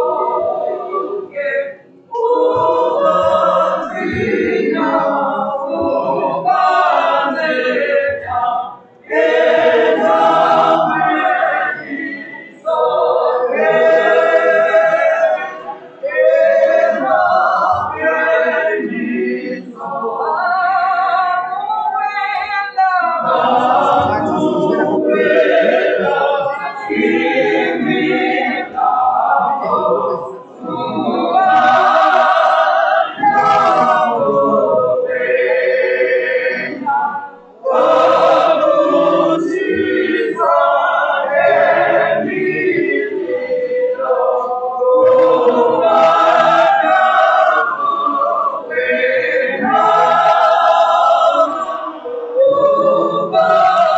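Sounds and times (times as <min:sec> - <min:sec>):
congregation singing a hymn: 0:00.0 - 0:53.9.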